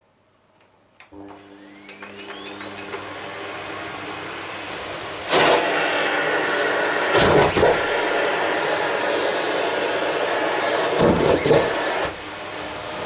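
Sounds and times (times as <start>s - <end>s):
vacuum cleaner motor whine: 1.1s - 13.0s.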